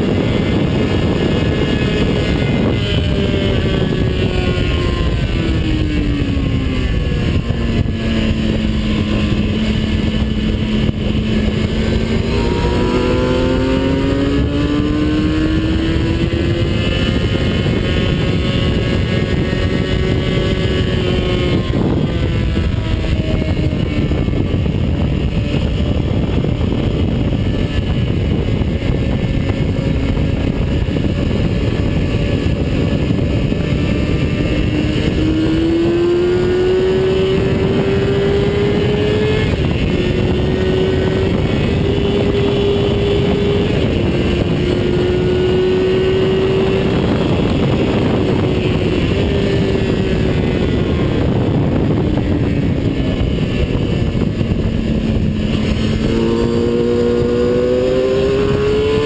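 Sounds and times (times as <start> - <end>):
vehicle engine accelerating: 0.0 - 59.0
wind and road noise: 0.0 - 59.0.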